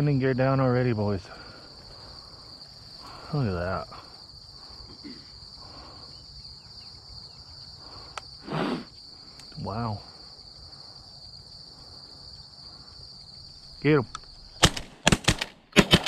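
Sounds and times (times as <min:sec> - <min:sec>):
insects trilling: 0:00.0 - 0:15.7.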